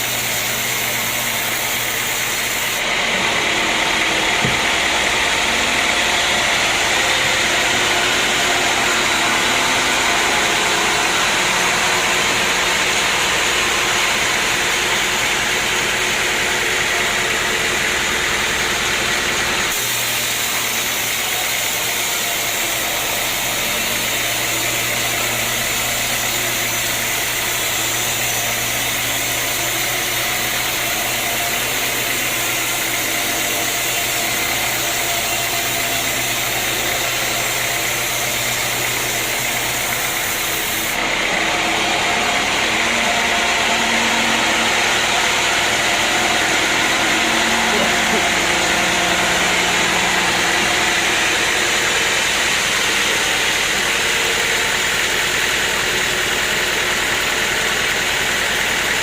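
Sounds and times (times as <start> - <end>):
sawmill machinery hum and hiss: 0.0 - 59.0.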